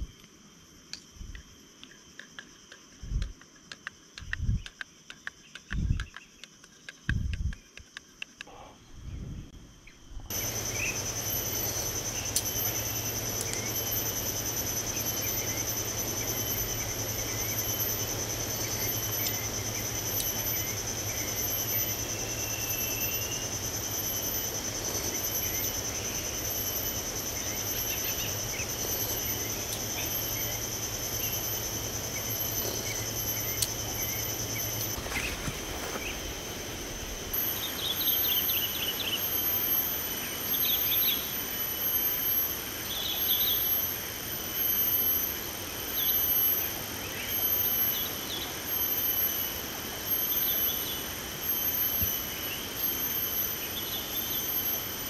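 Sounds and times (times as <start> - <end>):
insect chorus: 0.0 - 55.0
low steady hum: 0.0 - 55.0
outdoor hiss: 9.4 - 55.0.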